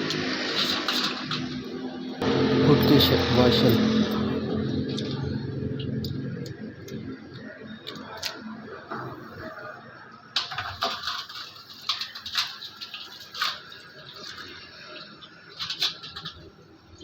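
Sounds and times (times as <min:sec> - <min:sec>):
metal tools clicking and clanking: 0:00.1 - 0:01.7, 0:02.7 - 0:08.4, 0:10.4 - 0:17.0.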